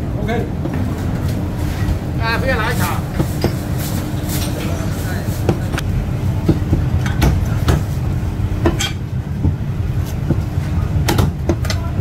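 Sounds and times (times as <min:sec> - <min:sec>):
low rumble and hum: 0:00.0 - 0:12.0.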